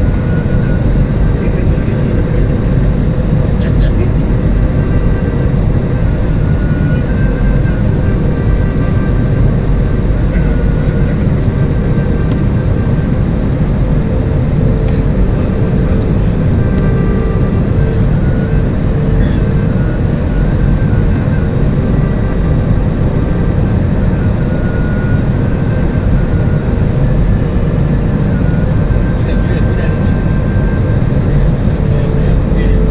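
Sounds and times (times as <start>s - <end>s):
airliner engines rumbling in cabin: 0.0s - 32.9s
faint steady hum: 0.0s - 32.9s.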